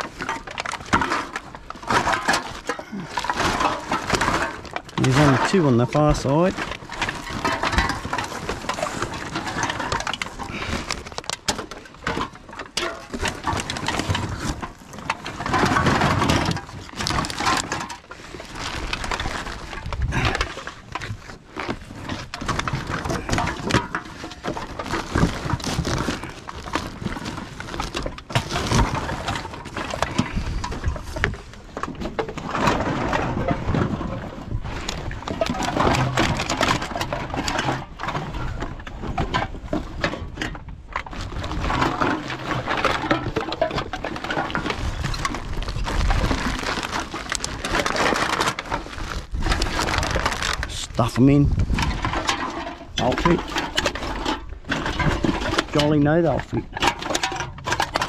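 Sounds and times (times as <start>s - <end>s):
bag and box rustling: 0.0s - 58.0s
cans and bottles clattering: 0.0s - 58.0s.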